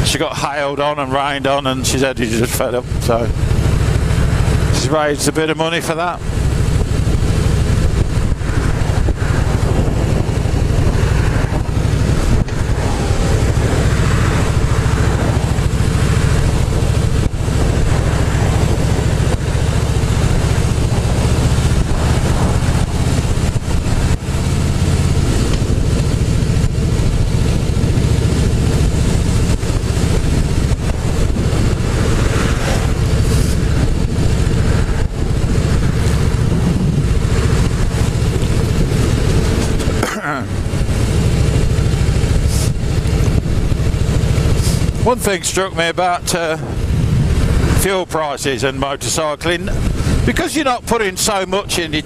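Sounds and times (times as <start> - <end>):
motorcycle engine running: 0.0 - 52.0
wind rushing over microphone: 0.0 - 52.0.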